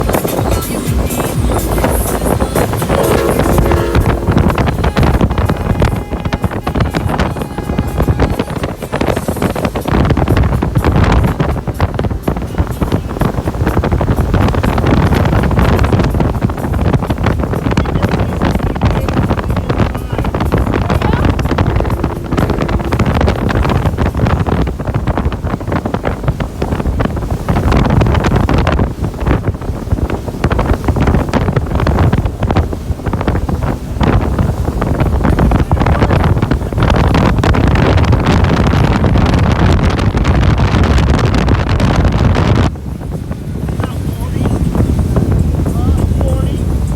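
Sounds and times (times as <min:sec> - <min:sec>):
motorboat engine at speed: 0:00.0 - 0:46.9
wind buffeting microphone: 0:00.0 - 0:46.9.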